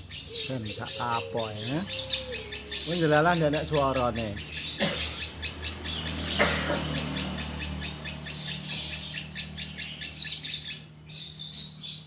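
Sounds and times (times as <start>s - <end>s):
lovebird chirping: 0.0s - 12.0s.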